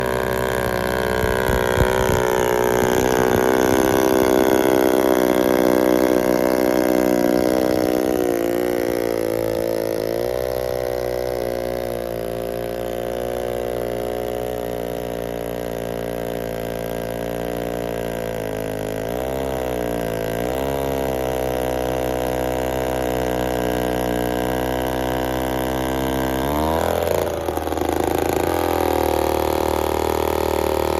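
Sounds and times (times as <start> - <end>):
chainsaw engine running: 0.0 - 30.9.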